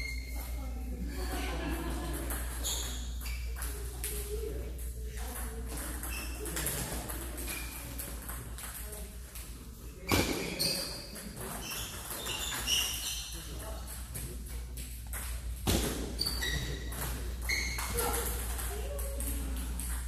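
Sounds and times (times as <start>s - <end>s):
table tennis balls clicking: 2.0s - 9.6s, 10.6s - 20.0s.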